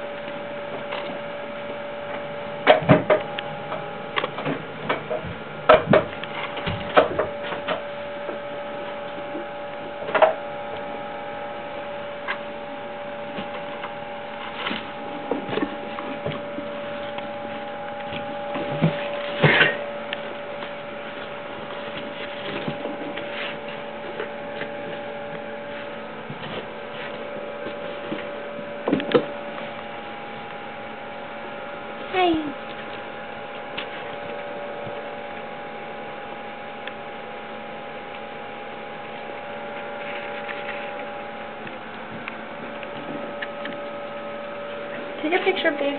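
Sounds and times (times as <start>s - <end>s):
steady electrical hum: 0.0s - 45.9s.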